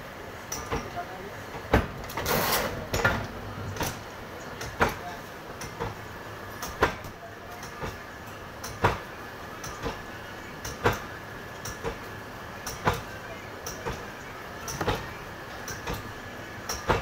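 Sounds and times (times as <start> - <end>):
faint machine whine: 0.0 - 17.0.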